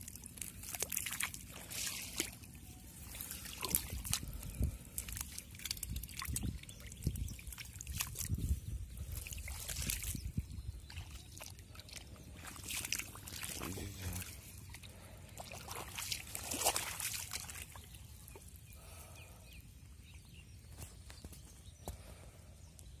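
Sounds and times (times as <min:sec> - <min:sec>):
muddy water sloshing and trickling: 0:00.0 - 0:22.2.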